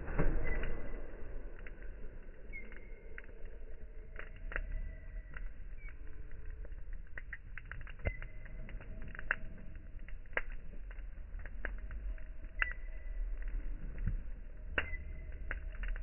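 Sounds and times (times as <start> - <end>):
campfire crackling: 0.0 - 16.0
low fire rumble: 0.0 - 16.0.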